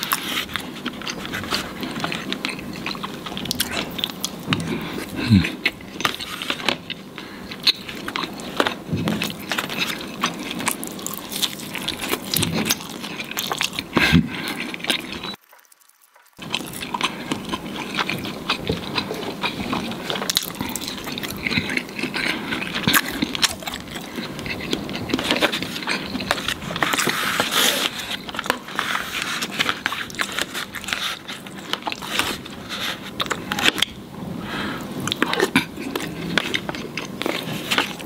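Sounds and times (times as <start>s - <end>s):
man chewing food: 0.0s - 38.0s.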